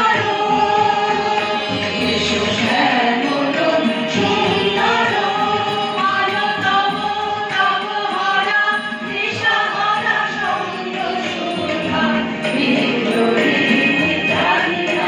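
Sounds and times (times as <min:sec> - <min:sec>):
harmonium: 0:00.0 - 0:15.0
women singing in unison: 0:00.0 - 0:15.0.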